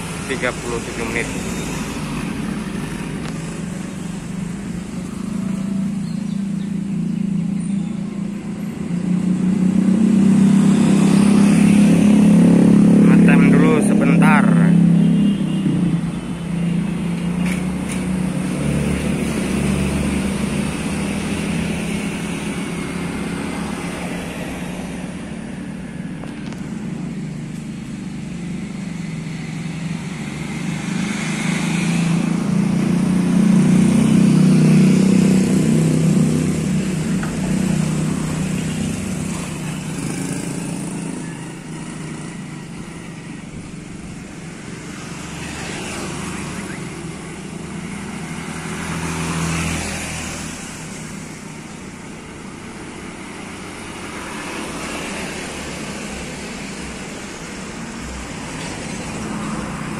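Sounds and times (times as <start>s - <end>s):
motorcycles passing: 0.0s - 59.9s
roadside traffic: 0.0s - 59.9s.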